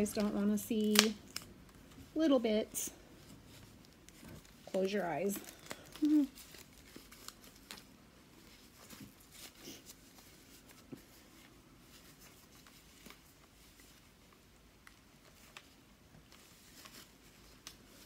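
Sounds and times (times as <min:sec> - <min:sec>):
soft rustles of wrapping: 0:00.0 - 0:18.0.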